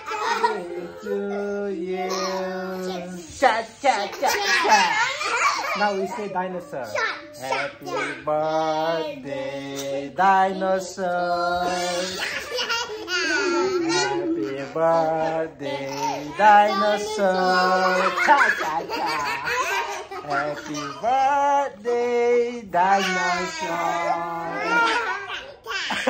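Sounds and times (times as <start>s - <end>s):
children and man laughing: 0.0s - 26.0s.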